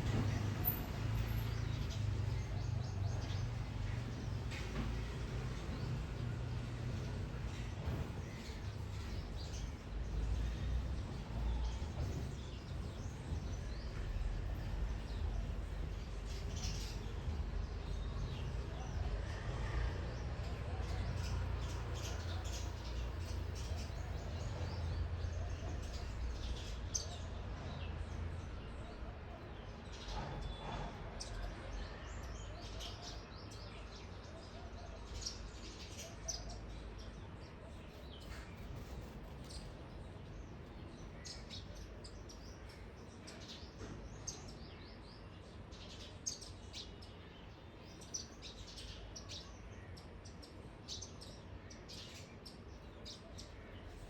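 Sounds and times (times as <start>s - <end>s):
small birds chirping: 0.0s - 19.1s, 20.4s - 28.8s, 35.0s - 54.0s.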